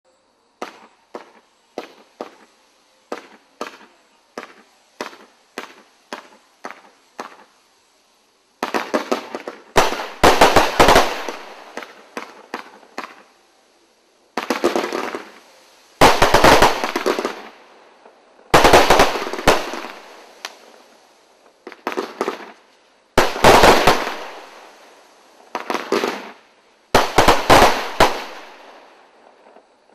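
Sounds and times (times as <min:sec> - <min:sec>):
fireworks cake firing: 0:00.4 - 0:29.9.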